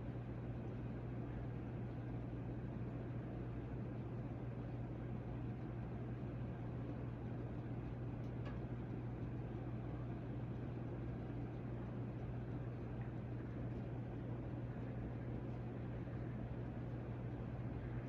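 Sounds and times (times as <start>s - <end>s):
ceiling fan motor hum: 0.0s - 18.0s.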